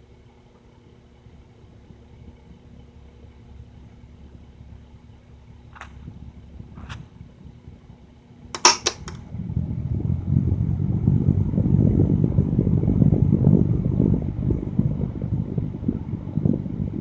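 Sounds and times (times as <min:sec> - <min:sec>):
electric fan blowing: 0:00.9 - 0:17.0.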